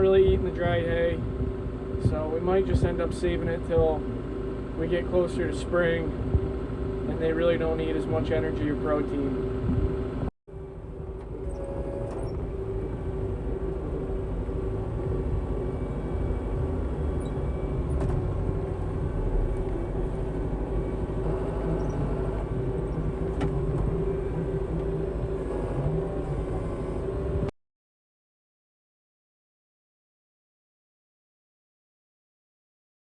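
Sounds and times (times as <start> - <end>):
tractor engine running: 0.0 - 27.5.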